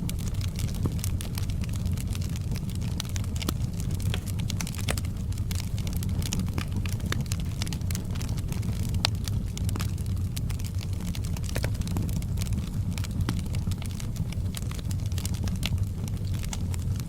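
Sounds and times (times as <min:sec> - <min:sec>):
burning wood snapping and popping: 0:00.0 - 0:17.0
low rumble of flames: 0:00.0 - 0:17.0.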